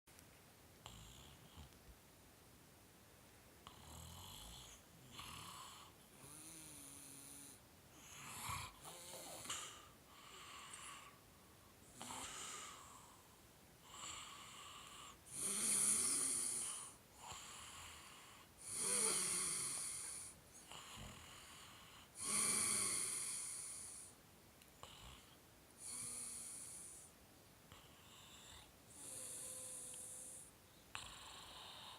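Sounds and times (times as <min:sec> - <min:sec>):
wheezy snoring: 0:00.8 - 0:01.8, 0:03.6 - 0:11.2, 0:11.8 - 0:24.2, 0:24.8 - 0:27.1, 0:27.7 - 0:31.9.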